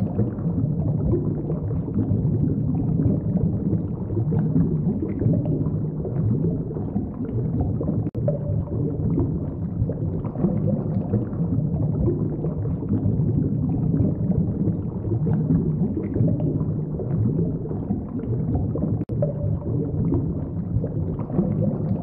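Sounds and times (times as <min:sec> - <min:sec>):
underwater rumble and gurgle: 0:00.0 - 0:22.0.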